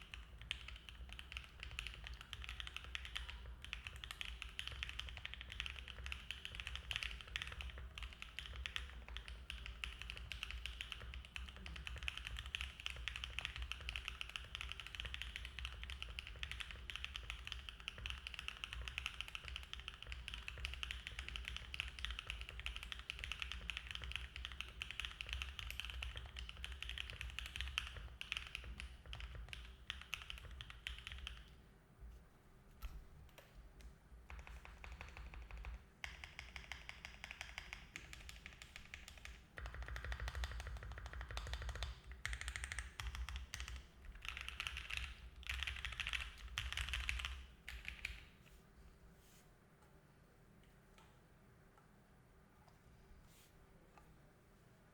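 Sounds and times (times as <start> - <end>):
mechanical keyboard typing: 0.0 - 31.5, 34.3 - 48.3.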